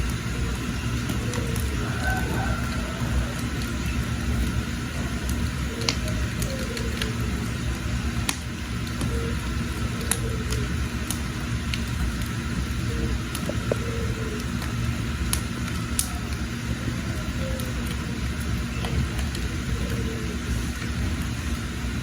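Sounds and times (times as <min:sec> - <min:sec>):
fire popping and crackling: 0:00.0 - 0:22.0
wood fire rumbling: 0:00.0 - 0:22.0.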